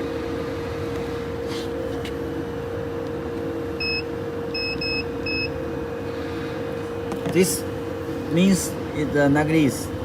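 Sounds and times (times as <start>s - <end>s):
machine electrical hum: 0.0s - 10.0s.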